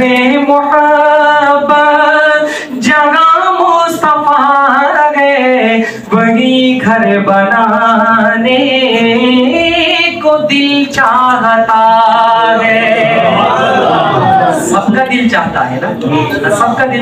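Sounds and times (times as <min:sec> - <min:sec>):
man singing unaccompanied: 0:00.0 - 0:13.6.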